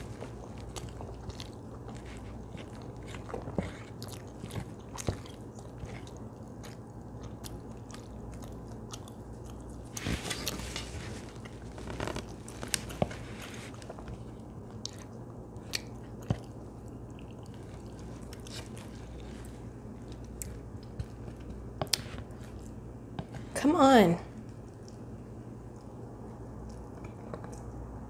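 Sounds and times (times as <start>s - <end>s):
close chewing: 0.0s - 22.9s, 24.4s - 27.9s
steady low hum: 0.0s - 28.0s.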